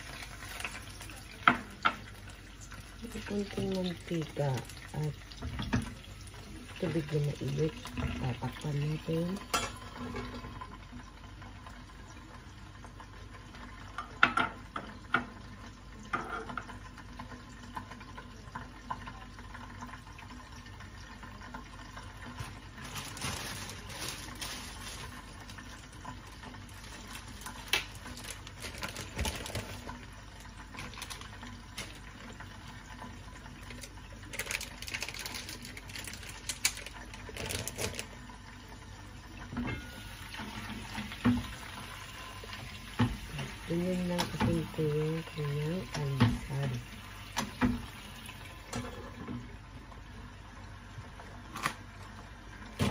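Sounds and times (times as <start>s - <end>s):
sausages sizzling in a pan: 0.0s - 15.6s, 16.2s - 48.7s.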